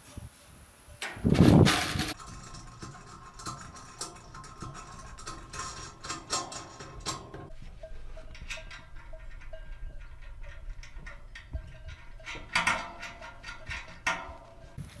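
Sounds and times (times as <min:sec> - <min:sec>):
light metal clicks and scrapes: 0:01.0 - 0:15.0.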